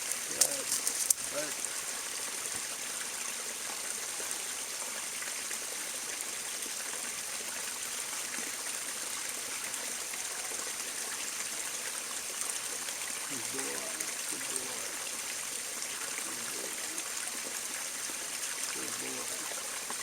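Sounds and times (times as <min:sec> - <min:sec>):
creek water trickling: 0:00.0 - 0:20.0.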